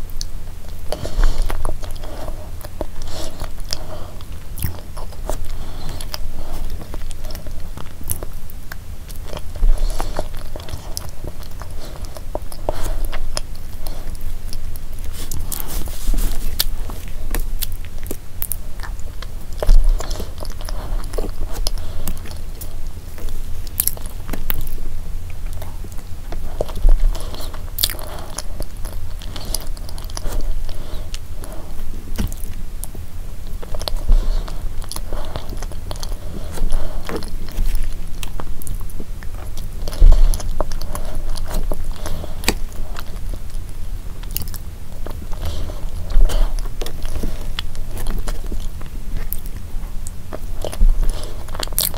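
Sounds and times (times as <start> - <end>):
person chewing: 0.0 - 51.9.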